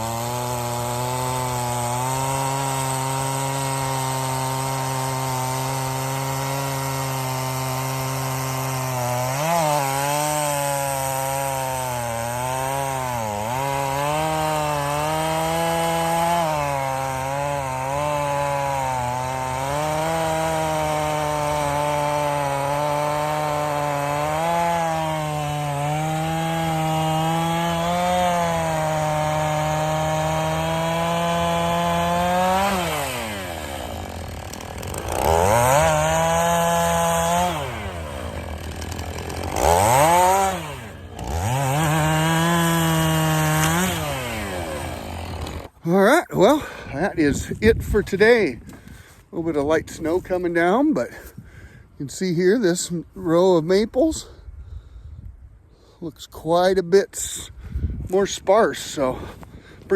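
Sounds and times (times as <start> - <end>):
chainsaw cutting log: 0.0 - 54.4, 55.8 - 59.9.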